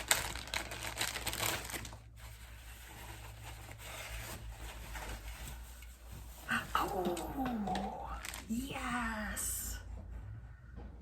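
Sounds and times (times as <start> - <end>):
wrapping rustling: 0.0 - 9.4.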